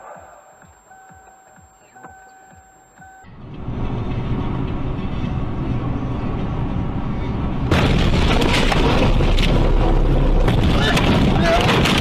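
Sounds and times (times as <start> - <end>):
road noise: 0.0 - 12.0
car engine rumble: 0.7 - 12.0.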